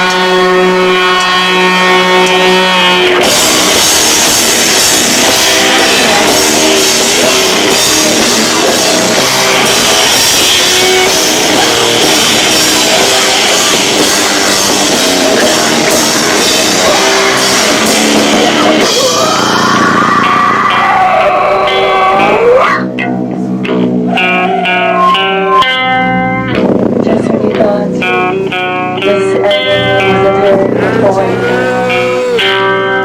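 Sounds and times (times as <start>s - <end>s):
bass guitar: 0.0s - 33.0s
distorted electric guitar: 0.0s - 33.0s
drums: 0.0s - 33.0s.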